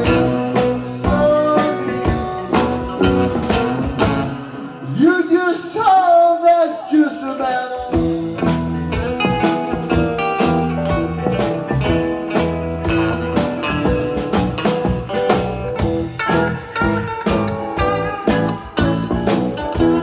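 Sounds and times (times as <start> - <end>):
bass guitar: 0.0 - 5.7, 7.8 - 20.0
drum kit steady beat: 0.0 - 5.7, 7.8 - 20.0
blues guitar: 0.0 - 20.0.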